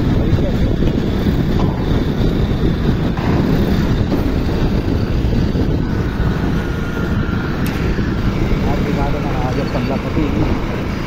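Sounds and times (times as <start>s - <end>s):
road and traffic noise: 0.0s - 11.0s
wind rumble on microphone: 0.0s - 11.0s.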